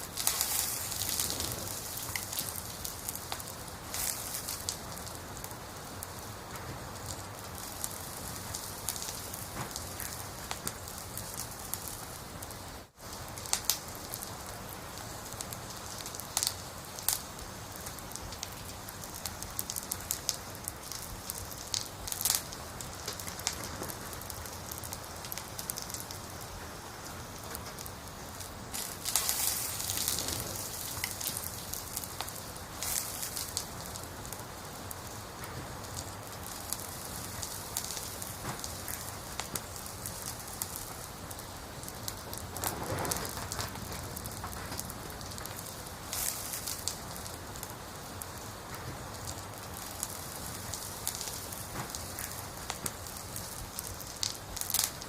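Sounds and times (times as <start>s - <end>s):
fire popping: 0.0s - 55.0s
wood fire crackling: 0.0s - 55.0s.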